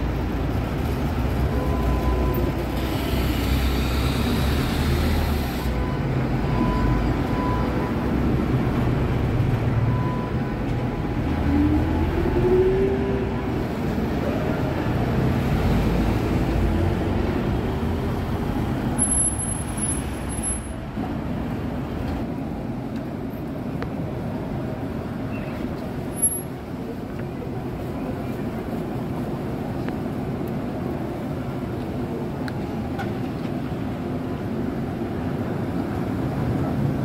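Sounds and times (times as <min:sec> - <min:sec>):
tram wheels rumbling: 0:00.0 - 0:37.0.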